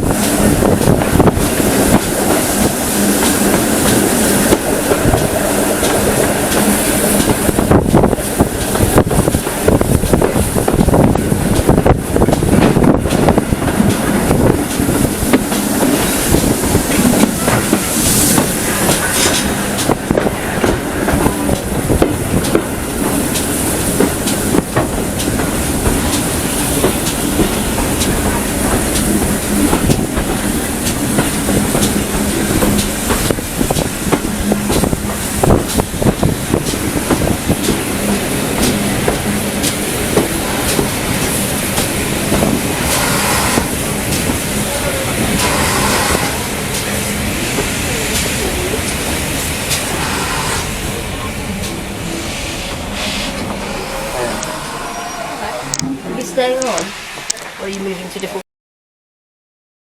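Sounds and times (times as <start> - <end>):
train clickety-clack over rail joints: 0.0 - 58.4.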